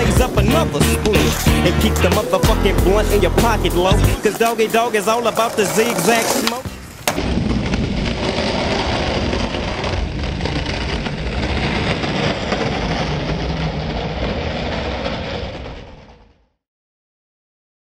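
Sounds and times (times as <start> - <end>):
skateboard wheels rolling on concrete: 0.0 - 16.6.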